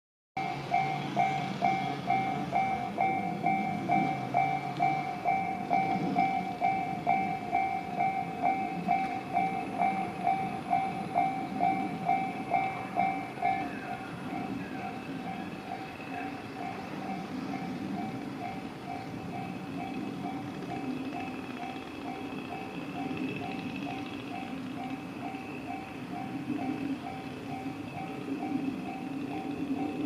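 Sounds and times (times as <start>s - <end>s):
level crossing bell ringing: 0.4s - 30.0s.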